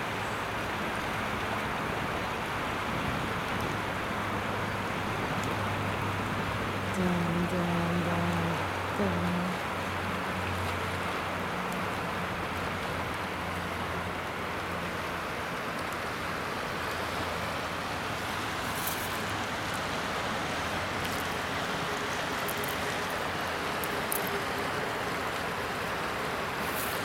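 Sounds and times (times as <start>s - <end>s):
small waves lapping on shoreline: 0.0s - 27.0s
wind: 0.0s - 27.0s.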